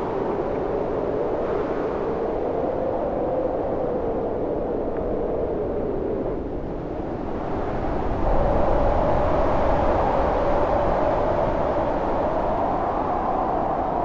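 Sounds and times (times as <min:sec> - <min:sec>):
storm wind howling: 0:00.0 - 0:14.0.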